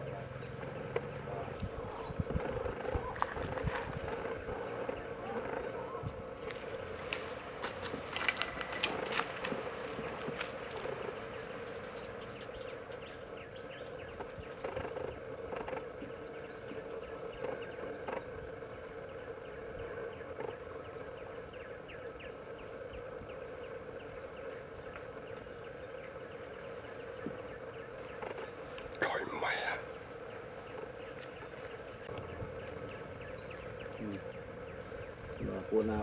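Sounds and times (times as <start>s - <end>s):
insects buzzing and chirping: 0.0s - 36.0s.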